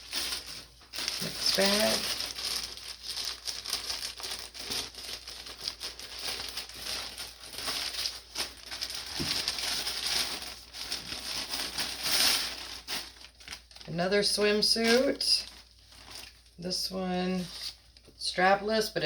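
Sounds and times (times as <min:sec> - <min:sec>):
plastic bag crinkling: 0:00.0 - 0:18.1.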